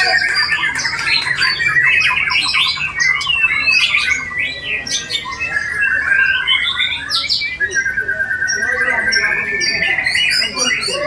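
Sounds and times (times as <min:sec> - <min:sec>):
chorus of songbirds singing: 0:00.0 - 0:11.0.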